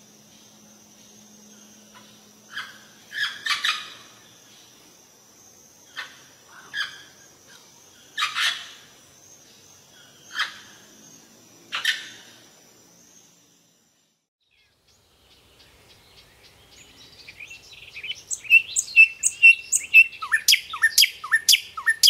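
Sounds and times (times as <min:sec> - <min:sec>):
faint steady background noise: 0:00.0 - 0:22.0.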